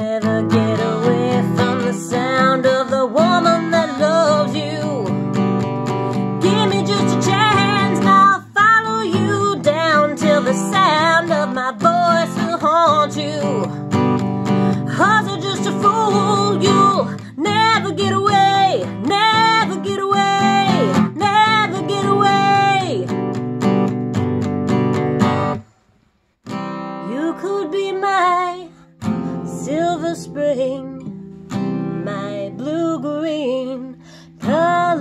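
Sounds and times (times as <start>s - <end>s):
woman singing: 0.0s - 23.2s, 27.0s - 35.0s
strummed acoustic guitar: 0.0s - 25.6s, 26.4s - 35.0s.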